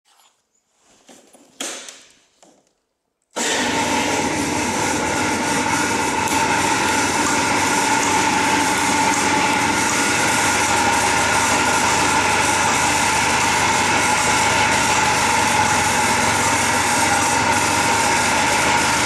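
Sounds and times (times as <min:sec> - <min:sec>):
scooter engine running: 0:03.4 - 0:19.0.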